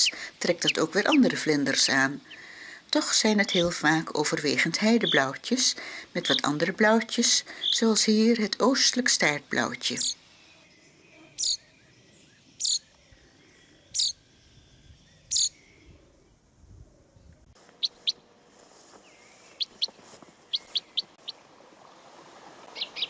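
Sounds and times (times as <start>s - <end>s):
small birds chirping: 0.0s - 21.5s, 22.7s - 23.0s.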